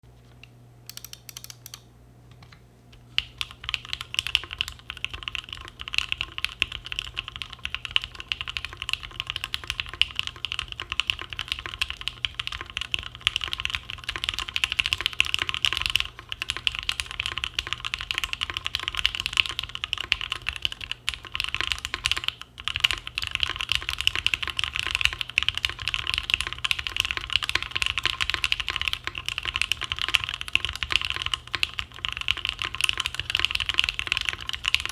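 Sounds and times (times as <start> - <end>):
mechanical keyboard typing: 0.9 - 1.8, 3.1 - 34.9.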